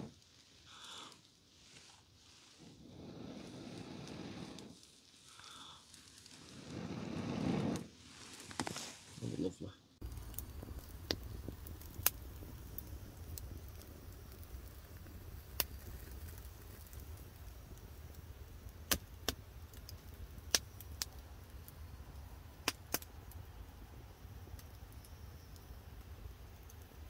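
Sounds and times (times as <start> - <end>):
wood fire crackling and popping: 0.0 - 8.9, 10.0 - 27.0
fire low rumble: 0.0 - 27.0.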